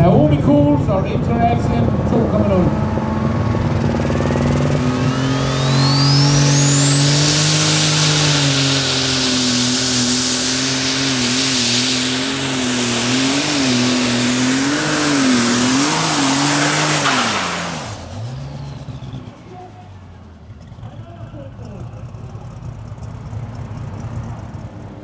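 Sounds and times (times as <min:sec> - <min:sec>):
diesel engine at full power: 0:00.0 - 0:25.0
high turbo whine: 0:00.0 - 0:25.0.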